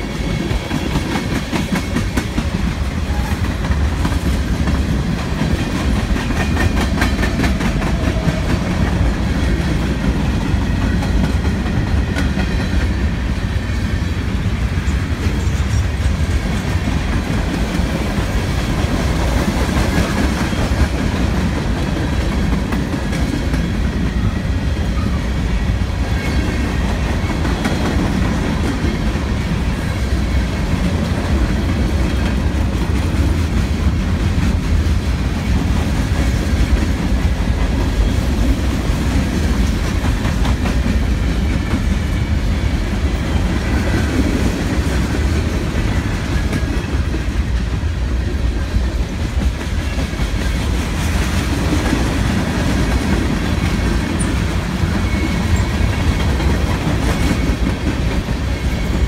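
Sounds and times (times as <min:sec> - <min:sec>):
freight train wheels clacking on rails: 0:00.0 - 0:59.0.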